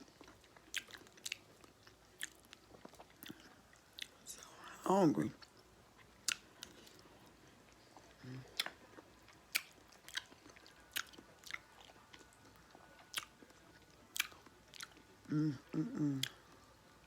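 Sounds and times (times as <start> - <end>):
person chewing with wet smacks: 0.0 - 4.2, 5.4 - 16.7.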